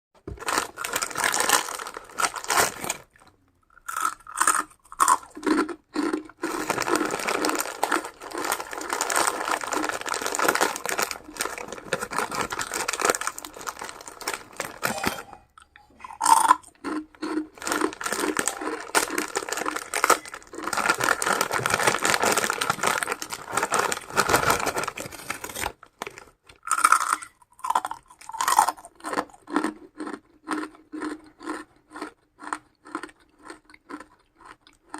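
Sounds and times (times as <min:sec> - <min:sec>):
person crunching and chewing food: 0:00.3 - 0:34.9.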